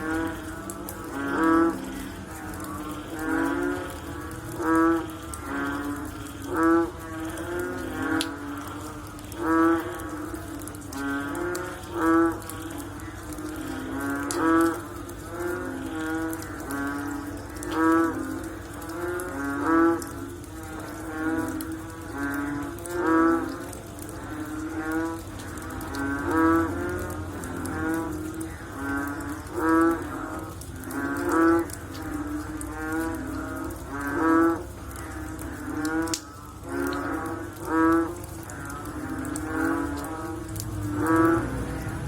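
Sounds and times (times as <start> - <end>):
frogs croaking: 0.0 - 42.0.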